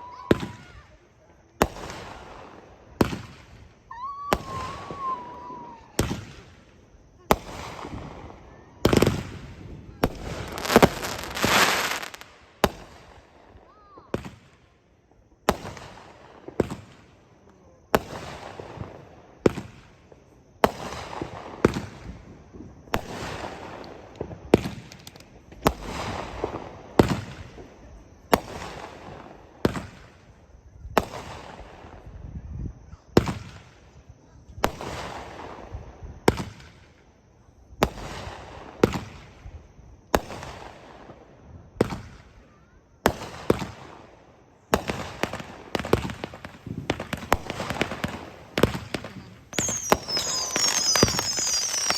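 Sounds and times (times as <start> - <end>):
firework cake firing bangs: 0.0 - 1.0, 1.6 - 14.6, 15.4 - 17.1, 18.0 - 20.0, 20.6 - 22.2, 22.8 - 32.0, 33.1 - 33.9, 34.6 - 37.1, 37.8 - 39.5, 40.1 - 41.2, 41.8 - 44.1, 44.7 - 51.9.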